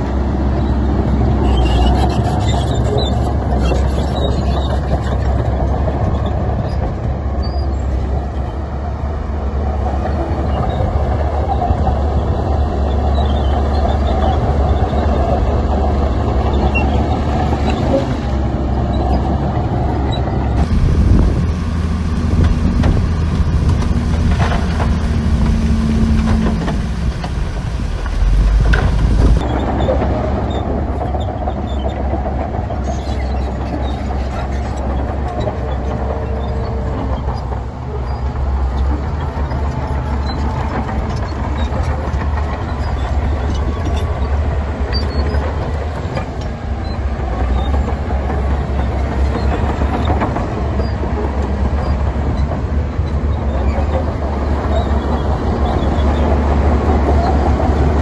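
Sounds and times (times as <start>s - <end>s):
heavy diesel engine drone: 0.0s - 58.0s.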